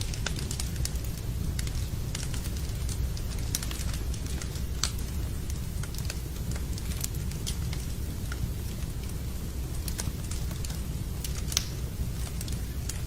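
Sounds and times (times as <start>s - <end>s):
steady rain: 0.0s - 13.0s
wood fire crackling: 0.0s - 13.0s.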